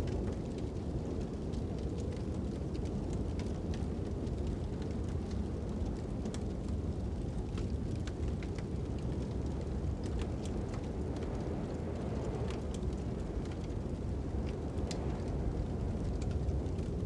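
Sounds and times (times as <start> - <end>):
low rush of wind: 0.0 - 17.0
wood fire crackling and popping: 0.0 - 17.0.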